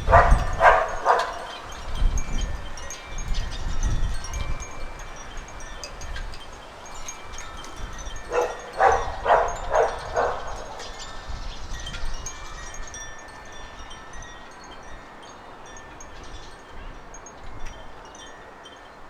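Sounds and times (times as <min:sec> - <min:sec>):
birds chirping: 0:00.0 - 0:18.9
low wind rumble: 0:00.0 - 0:19.0.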